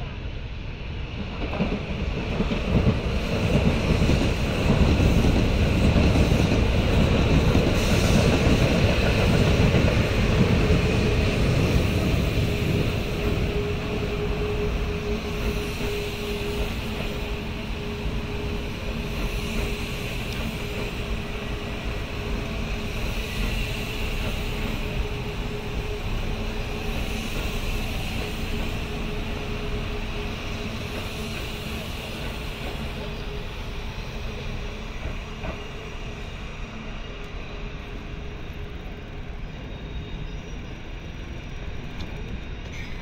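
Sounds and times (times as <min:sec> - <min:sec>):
electric train rolling on tracks: 0:00.0 - 0:43.0.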